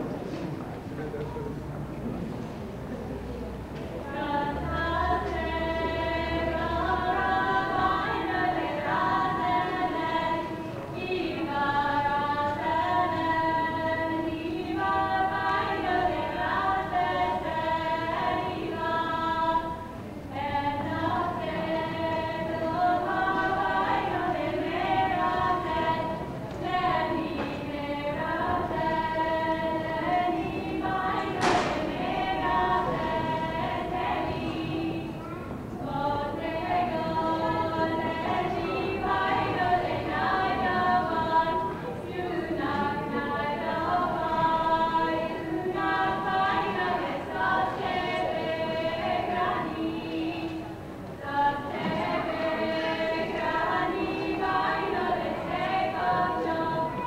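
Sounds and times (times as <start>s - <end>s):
women singing in harmony: 4.0s - 57.0s.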